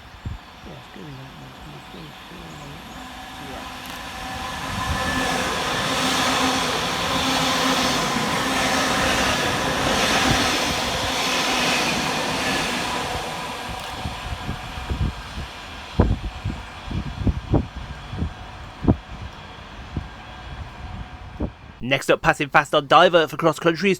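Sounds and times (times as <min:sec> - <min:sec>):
train wheels rushing on rail: 0:00.0 - 0:21.8.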